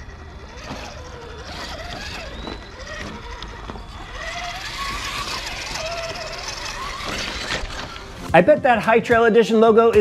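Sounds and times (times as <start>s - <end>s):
electric toy car motor whining: 0.0s - 8.3s.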